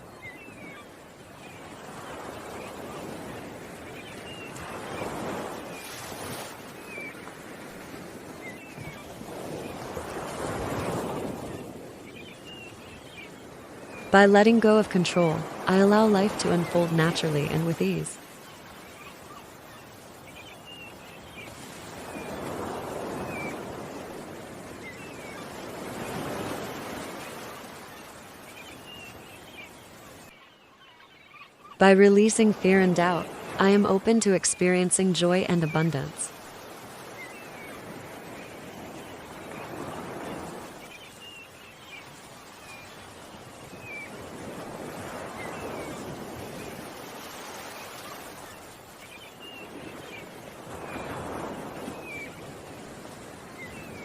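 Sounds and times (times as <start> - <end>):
ocean waves washing in: 0.0 - 54.0
small birds chirping: 0.0 - 54.0.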